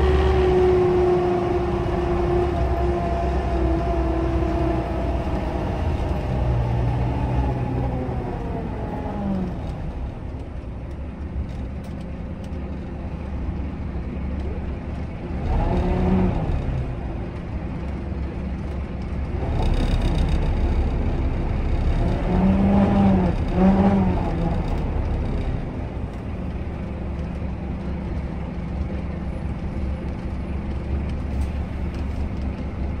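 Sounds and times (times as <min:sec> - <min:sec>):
bus engine rumble from inside: 0:00.0 - 0:33.0.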